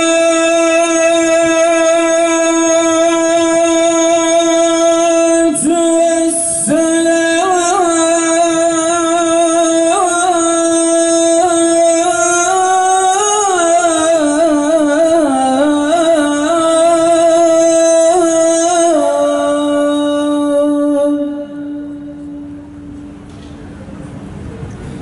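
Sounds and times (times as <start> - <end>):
unaccompanied voice chanting: 0.0 - 22.6.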